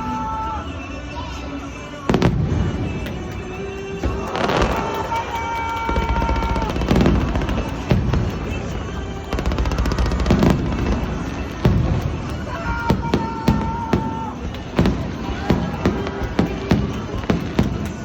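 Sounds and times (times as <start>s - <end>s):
music over loudspeakers: 0.0s - 18.0s
fireworks booming and crackling: 2.1s - 18.0s.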